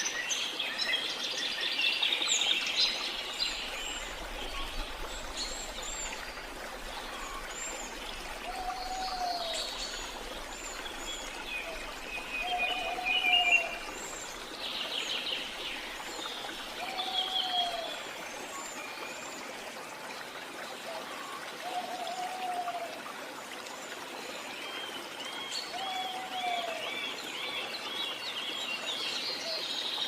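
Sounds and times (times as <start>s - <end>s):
flowing water rushing: 0.0s - 30.0s.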